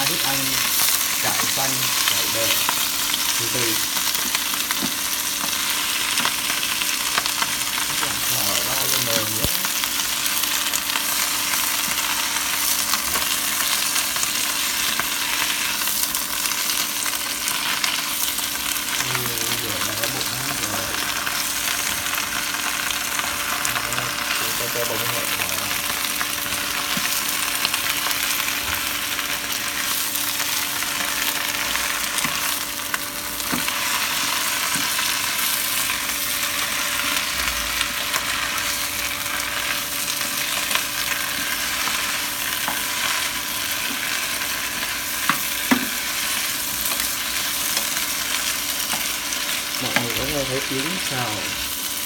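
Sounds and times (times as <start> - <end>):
vegetables sizzling in pan: 0.0 - 52.0.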